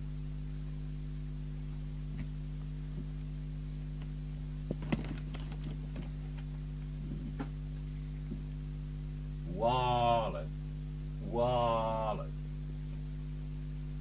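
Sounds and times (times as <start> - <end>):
low mains hum: 0.0 - 14.0.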